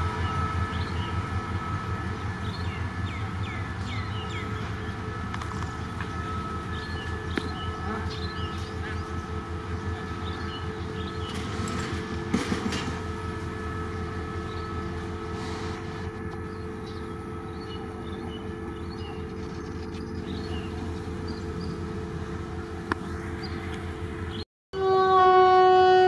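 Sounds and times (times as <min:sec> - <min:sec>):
diesel locomotive idling: 0:00.0 - 0:24.4.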